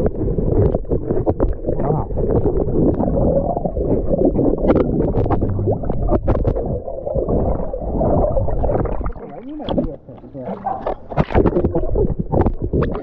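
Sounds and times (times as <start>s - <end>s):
underwater rumbling and sloshing: 0.0s - 13.0s.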